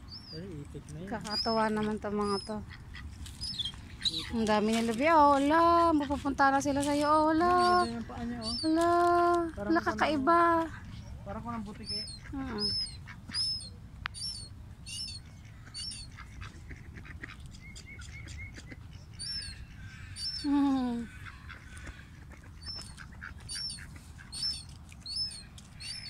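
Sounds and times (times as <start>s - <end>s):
birds calling sharply: 0.0s - 26.0s.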